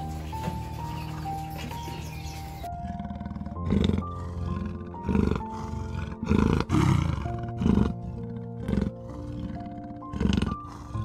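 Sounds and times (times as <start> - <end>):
soft background music: 0.0 - 11.0
leopard calling: 0.1 - 11.0.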